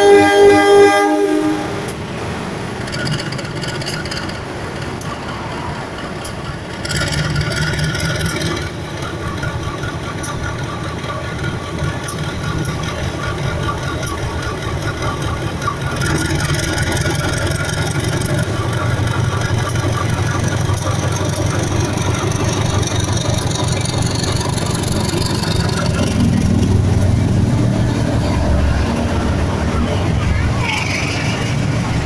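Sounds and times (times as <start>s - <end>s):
diesel railcar engine running: 0.0s - 32.0s.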